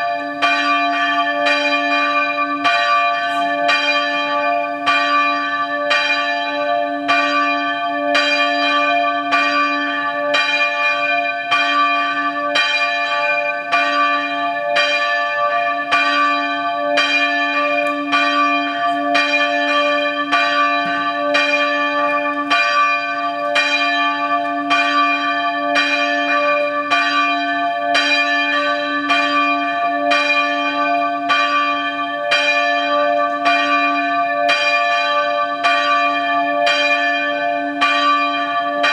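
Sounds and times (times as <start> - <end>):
church bell tolling: 0.0 - 38.9.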